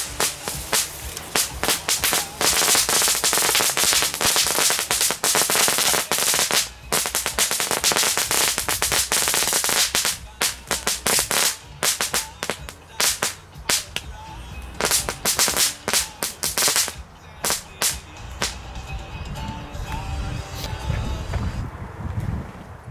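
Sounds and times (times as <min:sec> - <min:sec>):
firecrackers crackling: 0:00.0 - 0:18.9.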